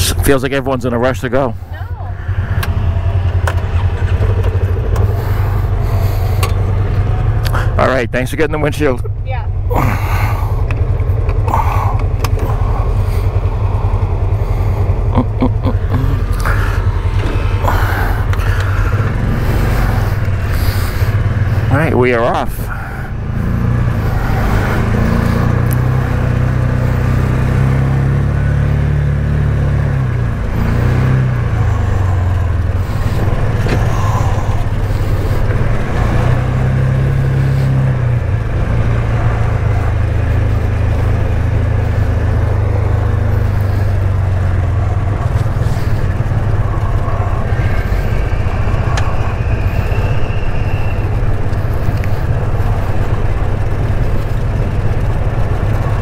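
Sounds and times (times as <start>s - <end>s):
rolling and wind noise: 0.0s - 56.0s
utility vehicle engine: 0.0s - 56.0s.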